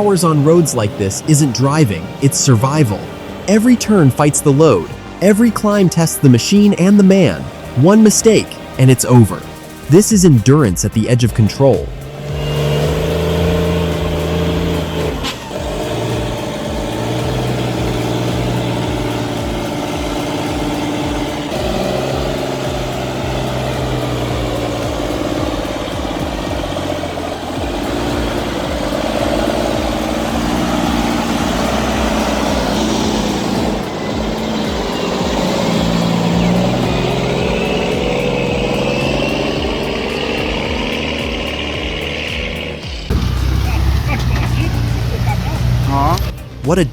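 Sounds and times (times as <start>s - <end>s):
truck diesel engine under load: 0.0s - 46.9s.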